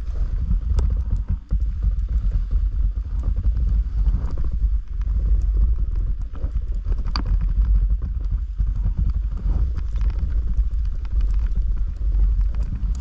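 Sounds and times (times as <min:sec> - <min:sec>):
snowboard scraping over snow: 0:00.0 - 0:13.0.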